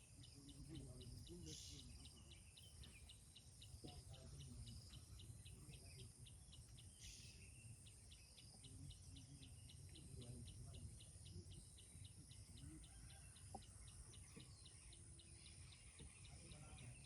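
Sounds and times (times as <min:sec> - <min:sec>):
faint insect chirping: 0:00.0 - 0:17.0
rural background noise: 0:00.0 - 0:17.0.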